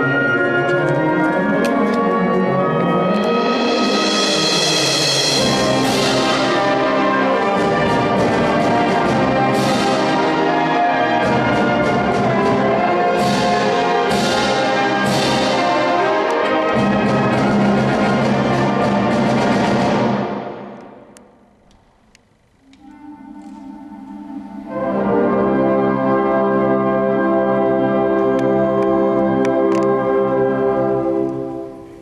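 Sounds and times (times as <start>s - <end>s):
wind band playing brass-led music: 0.0s - 21.0s, 22.9s - 32.0s.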